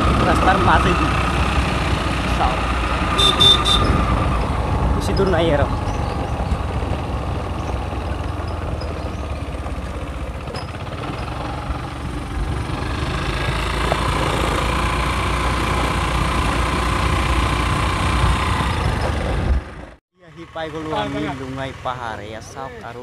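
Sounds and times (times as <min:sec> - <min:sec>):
wind rumbling on microphone: 0:00.0 - 0:20.0
motorbike engine running: 0:00.0 - 0:23.0.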